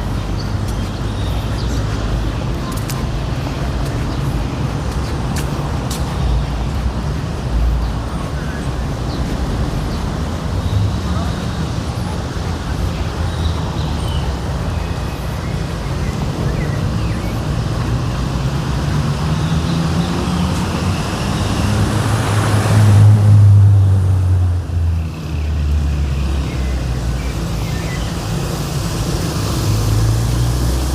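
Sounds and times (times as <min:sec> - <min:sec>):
traffic engines humming: 0:00.0 - 0:30.9.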